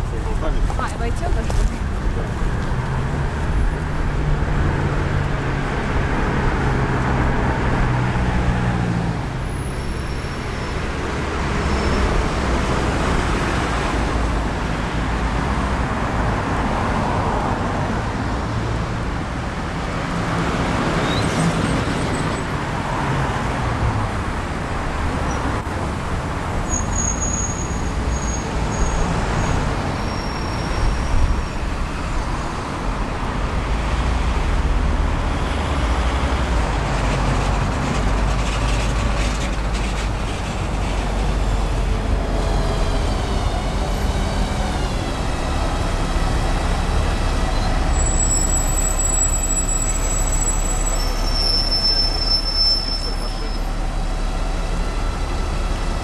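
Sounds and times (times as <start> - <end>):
engine hum: 0.0 - 56.0
traffic rumble: 0.0 - 56.0.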